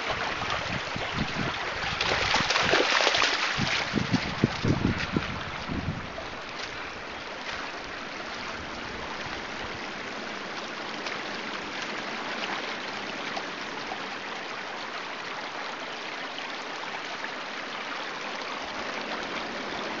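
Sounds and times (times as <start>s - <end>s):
stream rushing over stones: 0.0s - 20.0s.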